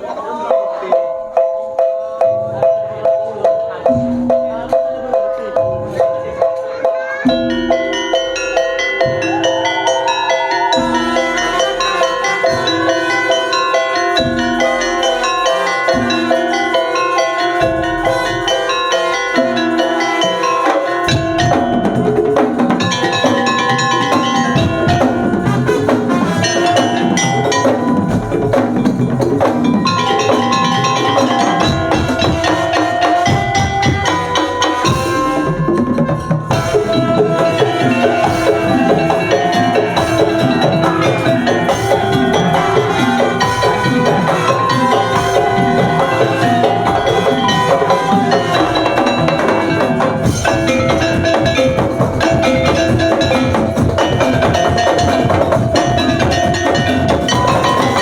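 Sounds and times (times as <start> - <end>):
bell-like pitched tones: 0.0 - 58.0
drums: 0.0 - 58.0
percussion ensemble playing: 0.0 - 58.0.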